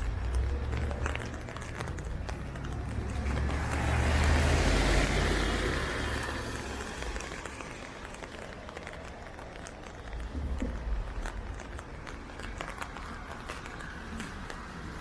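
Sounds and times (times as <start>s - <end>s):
car passing on wet street: 0.0s - 15.0s
rain pattering: 0.0s - 15.0s.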